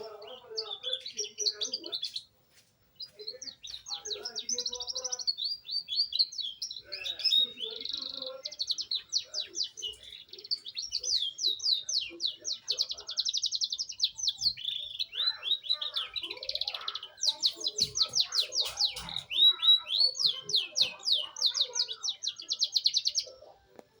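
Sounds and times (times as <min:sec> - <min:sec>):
canary singing rapid trills: 0:00.0 - 0:02.4, 0:03.0 - 0:24.0.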